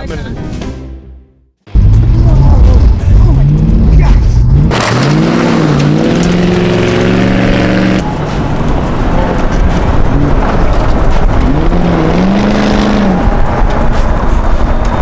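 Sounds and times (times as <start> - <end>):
road and tyre noise: 1.6 - 15.0
rally car engine revving: 1.7 - 15.0.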